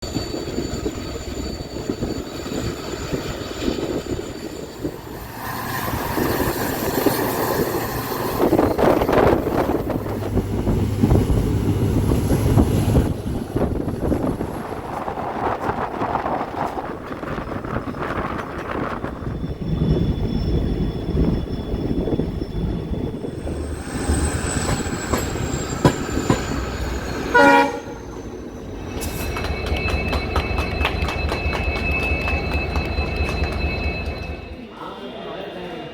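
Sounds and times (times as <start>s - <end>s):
train rumbling and rattling: 0.0s - 34.8s.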